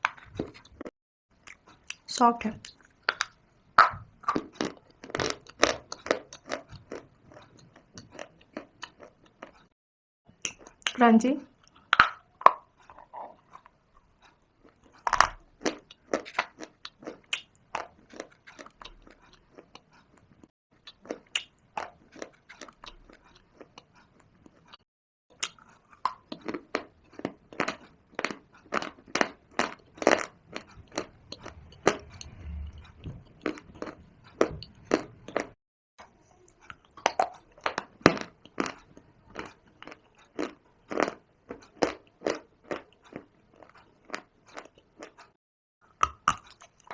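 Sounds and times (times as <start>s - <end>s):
crunchy chewing of dry clay: 0.0s - 46.9s.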